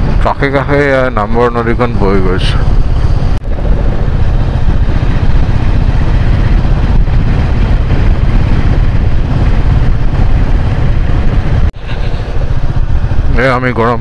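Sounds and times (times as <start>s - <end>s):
vehicle low rumble: 0.0s - 14.0s.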